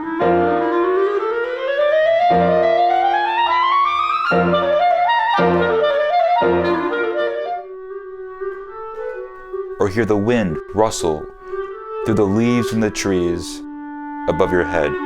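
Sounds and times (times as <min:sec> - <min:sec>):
clarinet playing: 0:00.0 - 0:15.0
low piano chords: 0:00.0 - 0:15.0.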